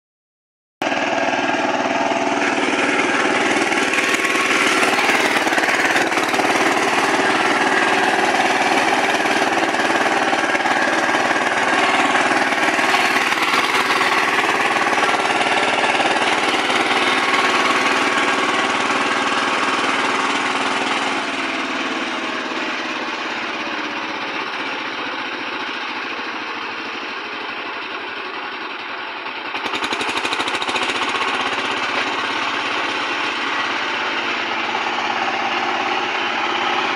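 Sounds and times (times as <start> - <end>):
power tiller diesel engine running: 0.8 - 36.9.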